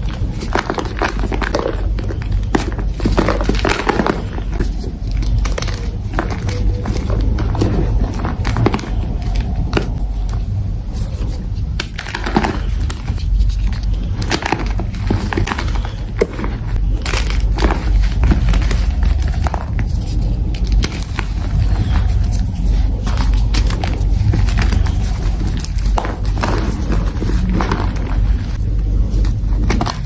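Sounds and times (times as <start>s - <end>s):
chalk blocks being crushed: 0.0s - 30.0s
steady low rumble: 0.0s - 30.0s.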